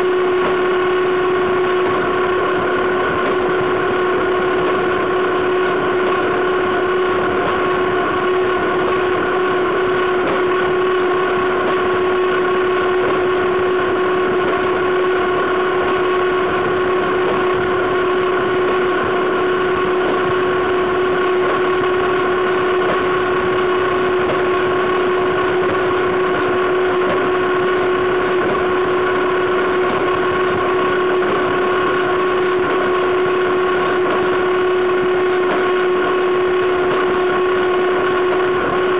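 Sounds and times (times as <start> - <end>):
steady whine: 0.0 - 38.9.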